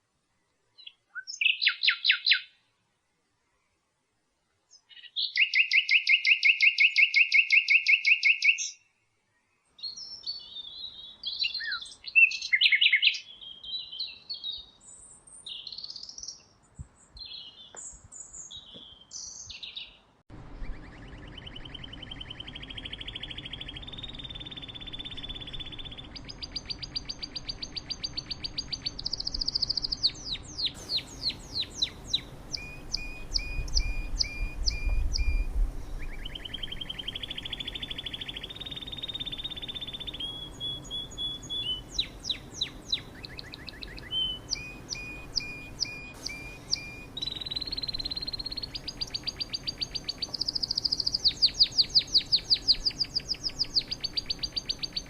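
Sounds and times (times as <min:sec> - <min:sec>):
small songbird singing: 0:00.7 - 0:02.6, 0:04.7 - 0:55.0.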